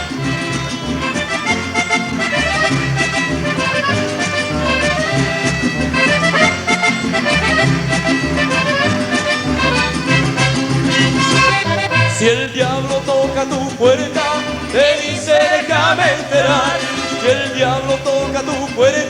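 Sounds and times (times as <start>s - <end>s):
mariachi band playing: 0.0s - 19.0s.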